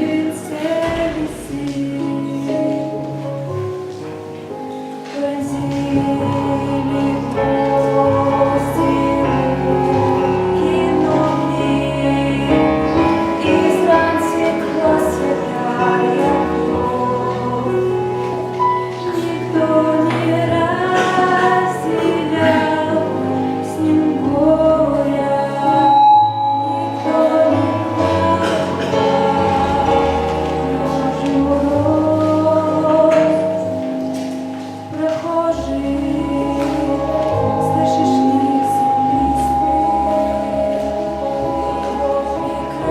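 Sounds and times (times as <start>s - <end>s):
person singing with accompaniment: 0.0s - 42.9s.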